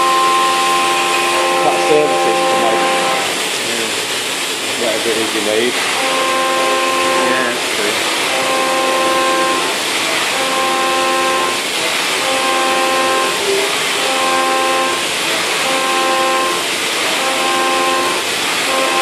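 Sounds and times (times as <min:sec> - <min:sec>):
milling machine cutting whine: 0:00.0 - 0:19.0.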